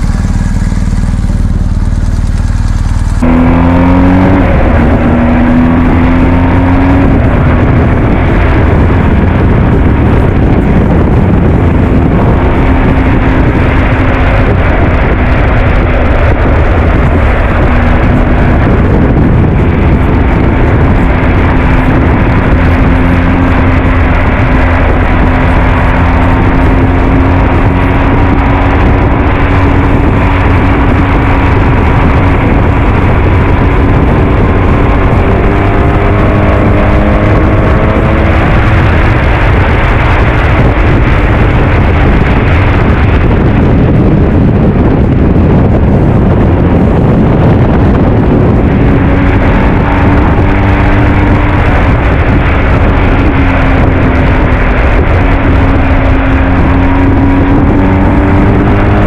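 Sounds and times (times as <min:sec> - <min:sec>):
motorcycle engine: 0:00.0 - 0:59.0
wind and road noise: 0:00.0 - 0:59.0.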